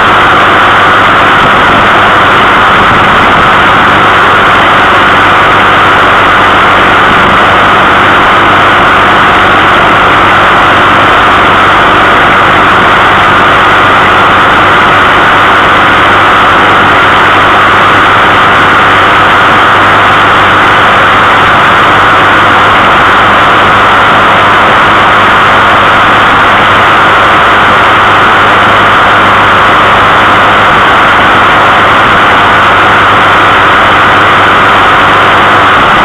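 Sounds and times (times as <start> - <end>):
road and wind noise: 0.0 - 36.0
vehicle engine running steadily: 0.0 - 36.0.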